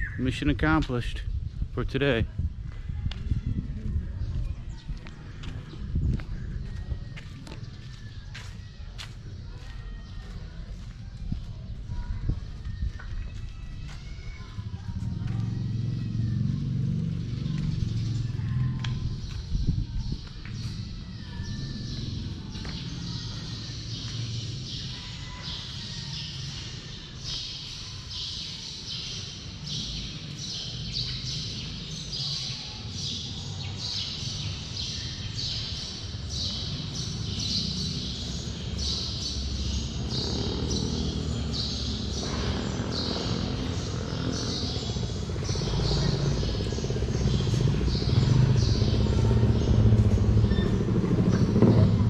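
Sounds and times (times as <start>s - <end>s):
street traffic rumble: 0.0s - 52.0s.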